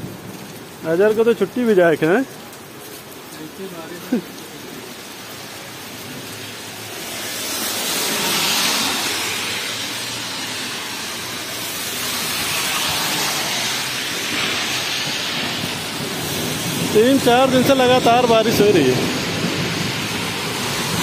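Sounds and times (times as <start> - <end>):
heavy rain falling: 0.0 - 21.0
cars driving through water: 0.7 - 21.0.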